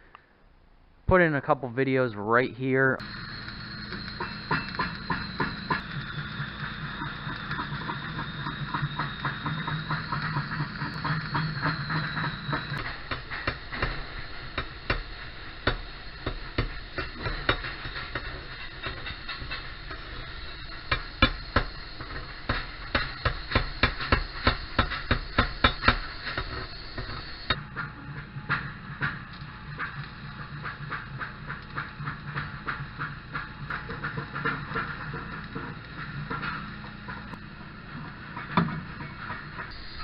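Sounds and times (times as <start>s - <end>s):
steady machine hum: 3.0s - 40.0s.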